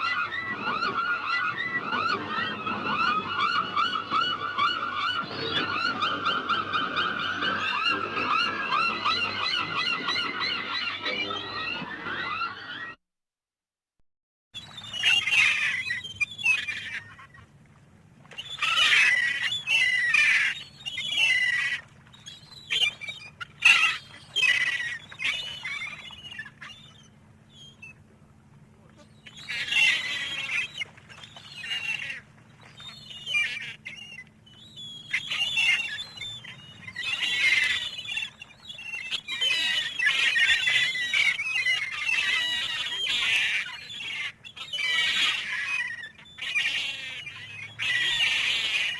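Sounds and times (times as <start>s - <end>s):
gulls squawking: 0.0s - 13.0s, 14.7s - 17.4s, 18.4s - 21.9s, 22.6s - 28.0s, 29.0s - 48.9s.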